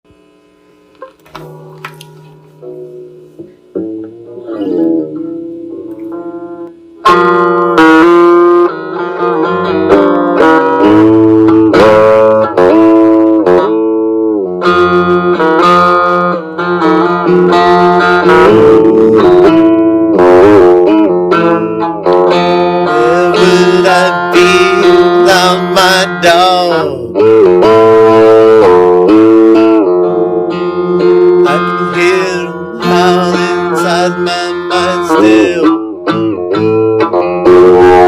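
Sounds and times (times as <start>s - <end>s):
instrumental guitar music: 0.1s - 38.0s.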